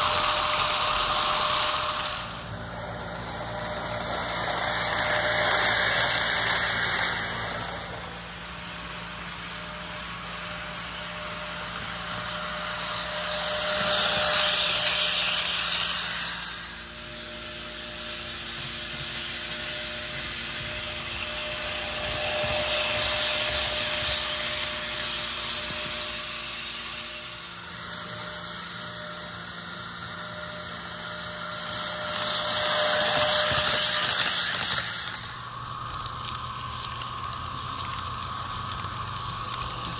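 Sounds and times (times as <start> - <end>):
model train rushing rumble: 0.0 - 39.9.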